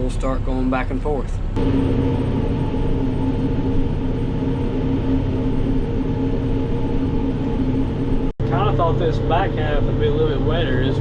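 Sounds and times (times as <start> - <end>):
farm machinery droning: 1.6 - 11.0.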